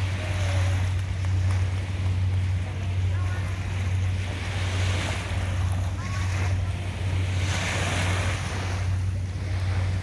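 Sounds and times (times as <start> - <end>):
waves lapping on shore: 0.0 - 10.0
wind rumble on microphone: 0.0 - 10.0.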